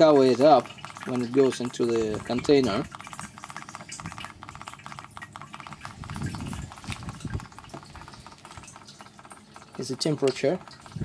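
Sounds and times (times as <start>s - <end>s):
liquid trickling into plastic can: 0.0s - 11.0s.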